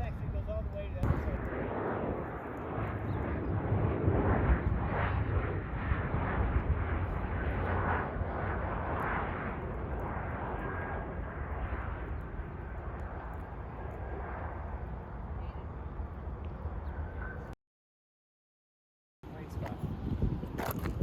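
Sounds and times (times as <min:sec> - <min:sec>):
jet engines rumbling: 0:00.0 - 0:17.6.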